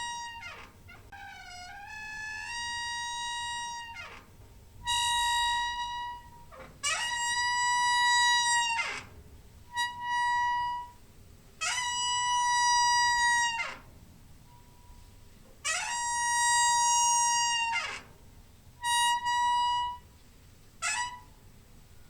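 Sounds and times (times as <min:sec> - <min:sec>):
creaky door squeaking: 0:00.0 - 0:11.0, 0:11.6 - 0:20.1, 0:20.8 - 0:21.5.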